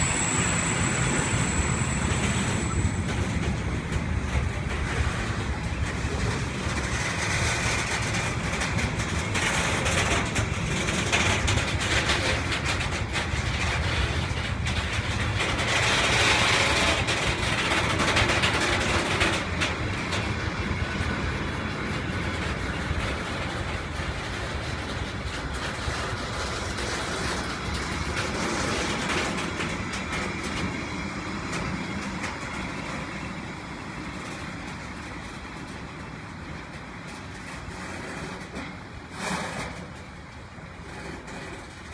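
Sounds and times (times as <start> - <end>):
freight train rumbling: 0.0 - 41.9
wheels clicking over rails: 0.0 - 41.9.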